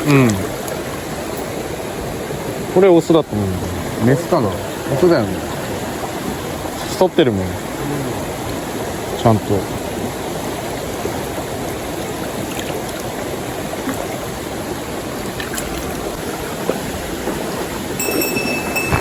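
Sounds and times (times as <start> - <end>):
small stream flowing: 0.0 - 19.0.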